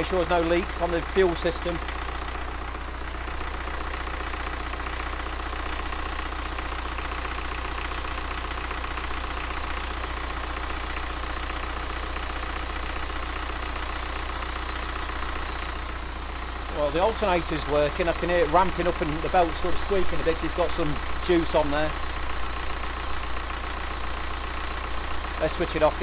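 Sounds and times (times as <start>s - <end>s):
diesel engine idling: 0.0s - 26.0s
drive belt squeaking: 0.0s - 26.0s.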